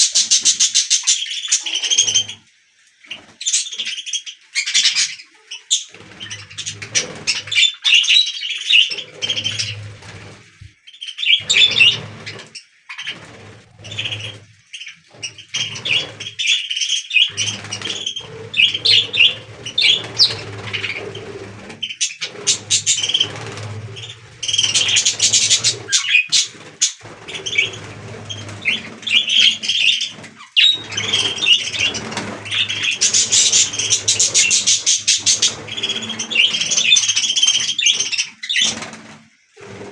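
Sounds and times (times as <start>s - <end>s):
budgies chirping and warbling: 0.0s - 39.9s.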